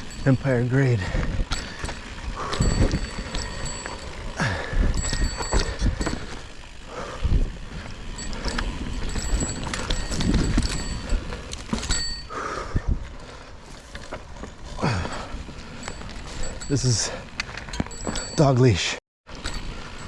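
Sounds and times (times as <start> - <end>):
bike rattling over dirt trail: 0.0 - 20.0.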